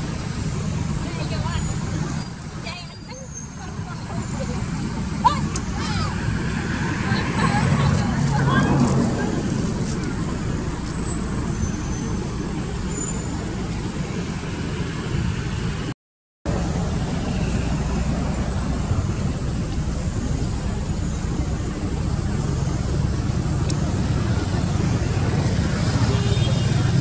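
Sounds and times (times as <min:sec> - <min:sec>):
low outdoor traffic rumble: 0:00.0 - 0:15.9, 0:16.5 - 0:27.0.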